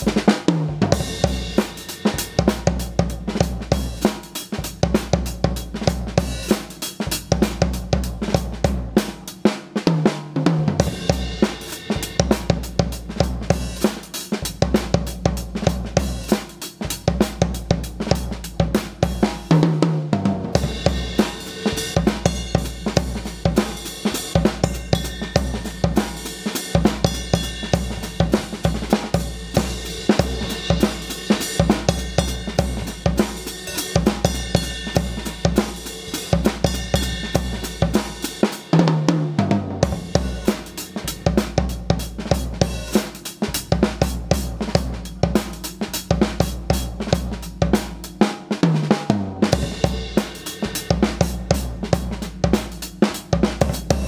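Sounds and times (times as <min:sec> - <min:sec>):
acoustic drum kit groove: 0:00.0 - 0:54.0.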